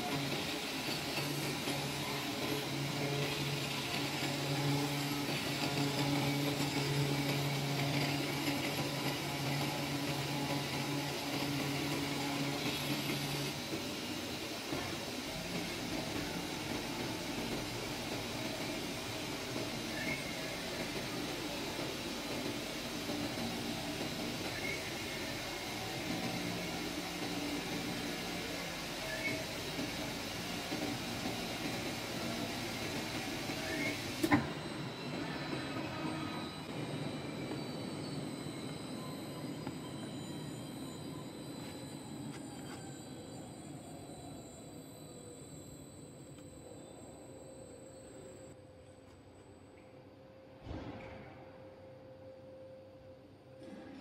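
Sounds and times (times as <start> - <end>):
cutting machine hum and hiss: 0.0 - 48.6.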